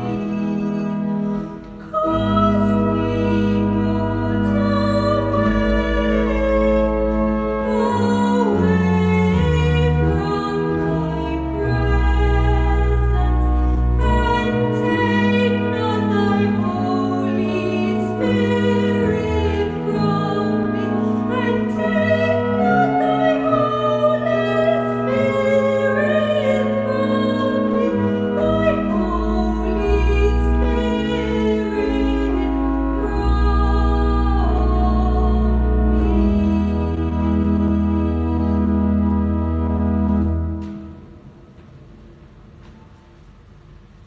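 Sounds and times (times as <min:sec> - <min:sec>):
voice singing church music: 0:00.0 - 0:41.4
sustained chords and bass notes: 0:02.3 - 0:41.0.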